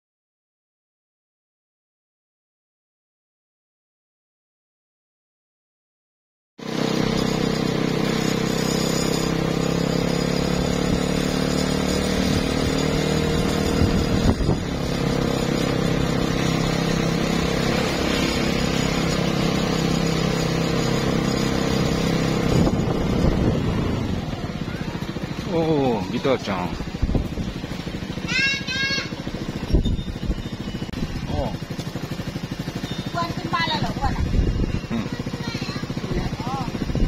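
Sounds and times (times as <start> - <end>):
motor scooter engine running: 6.6 - 37.0.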